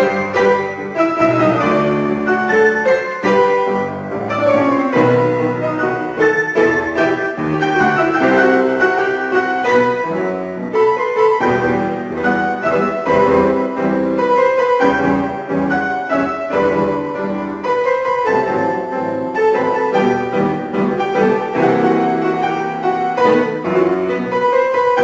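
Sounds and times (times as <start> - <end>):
piano trio playing: 0.0 - 25.0.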